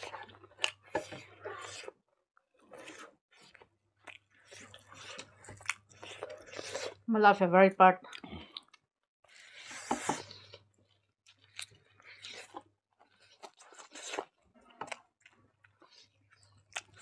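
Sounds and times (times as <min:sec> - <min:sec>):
people chewing food: 0:00.0 - 0:07.1, 0:08.0 - 0:17.0.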